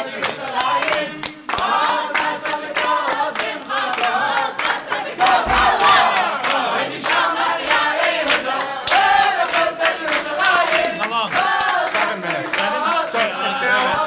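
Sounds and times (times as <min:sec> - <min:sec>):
crowd singing together: 0:00.0 - 0:14.0
hands clapping along: 0:00.0 - 0:14.0.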